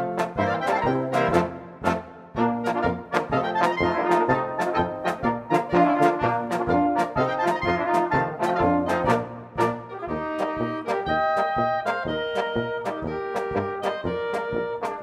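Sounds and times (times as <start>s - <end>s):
brass band music: 0.0s - 15.0s.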